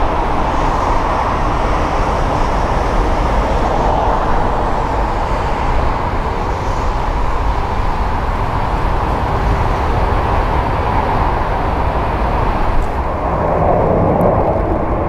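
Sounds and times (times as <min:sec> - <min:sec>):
another jet departing: 0:00.0 - 0:15.0
jet engines rumbling: 0:00.0 - 0:15.0.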